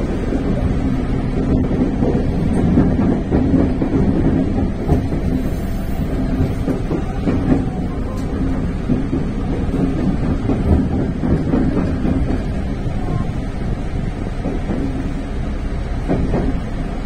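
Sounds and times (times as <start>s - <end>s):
wheels clicking over rail joints: 0.0s - 15.2s, 16.0s - 16.7s
electric train rumbling: 0.0s - 17.0s.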